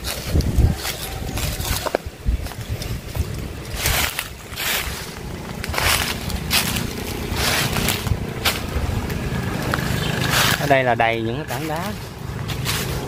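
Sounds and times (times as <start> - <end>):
wind on microphone: 0.0 - 11.1
low steady hum: 2.1 - 13.0.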